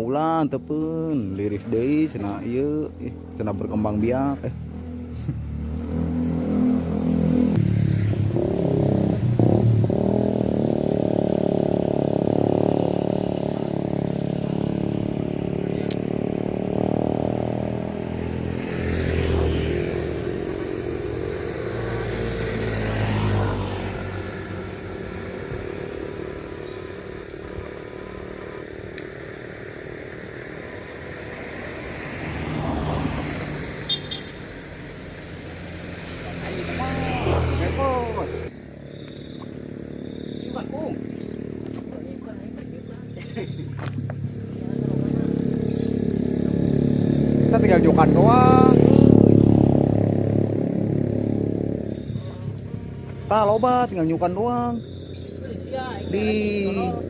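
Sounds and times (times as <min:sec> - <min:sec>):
motorcycle engine running: 0:02.9 - 0:31.8, 0:33.9 - 0:57.0.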